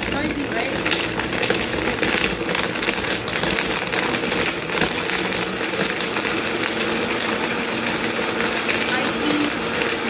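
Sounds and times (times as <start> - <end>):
blender running: 0.0 - 10.0.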